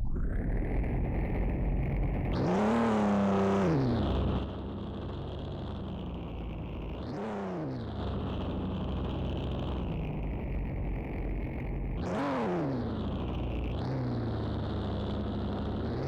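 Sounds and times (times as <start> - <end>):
car engine idling and revving: 0.8 - 16.0.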